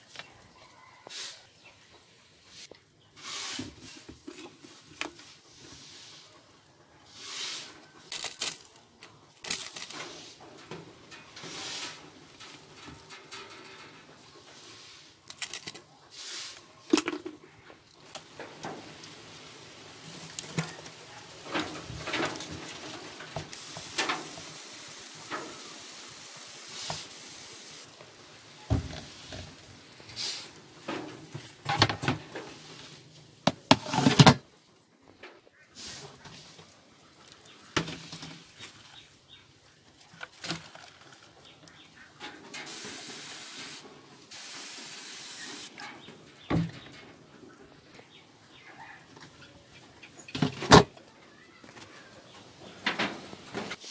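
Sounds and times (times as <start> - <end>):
rustling of leafy greens: 2.5 - 53.9.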